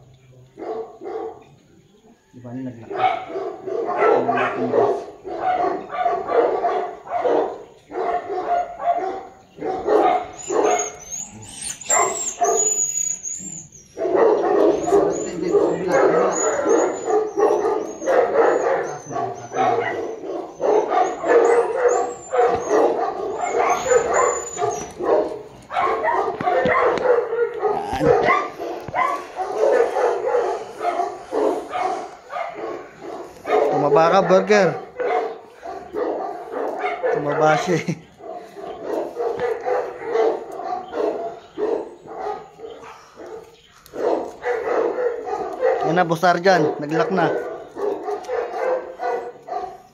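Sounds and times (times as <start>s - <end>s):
dog barking and yelping: 0.6s - 1.4s, 2.9s - 49.9s.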